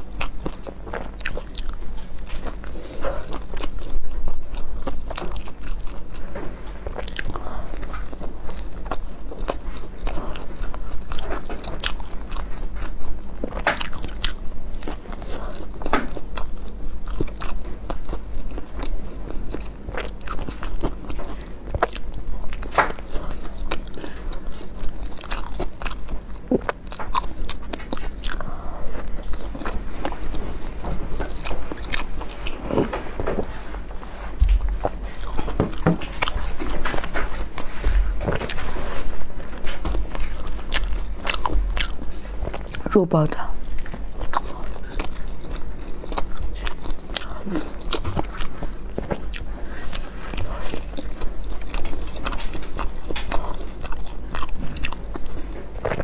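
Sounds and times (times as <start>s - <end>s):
wet chewing and lip smacks: 0.0s - 33.0s, 39.3s - 56.0s
steady low hum: 0.0s - 56.0s.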